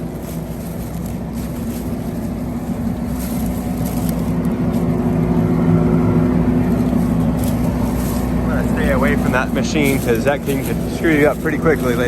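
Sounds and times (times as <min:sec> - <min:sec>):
mulcher cutter drum humming: 0:00.0 - 0:12.0.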